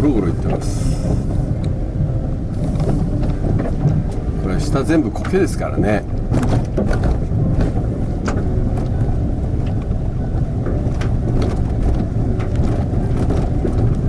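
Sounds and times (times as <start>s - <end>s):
tyres rumbling on stony track: 0.0s - 14.0s.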